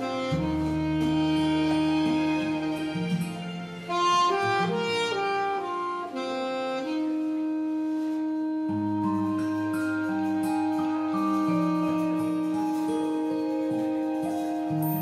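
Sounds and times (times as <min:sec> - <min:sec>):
saxophone playing slow melody: 0:00.0 - 0:14.9
karaoke backing track: 0:00.0 - 0:15.0.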